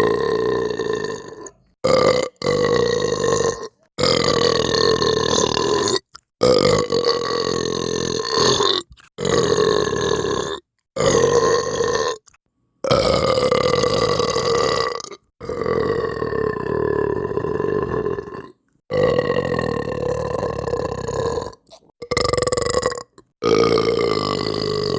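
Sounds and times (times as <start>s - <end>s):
long drawn-out belches: 0.0s - 24.9s.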